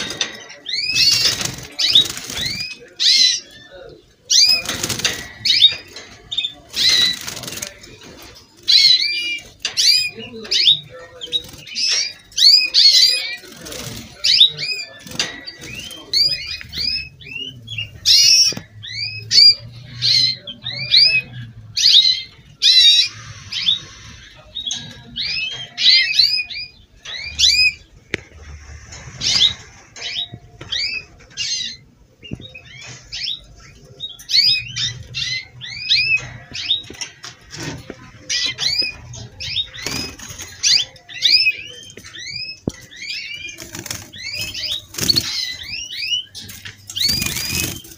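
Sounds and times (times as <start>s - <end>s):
canaries singing: 0.0s - 47.9s.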